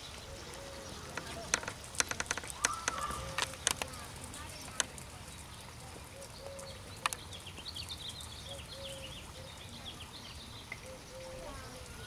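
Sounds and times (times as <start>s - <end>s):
birds chirping: 0.0s - 12.0s
low background noise: 0.0s - 12.0s.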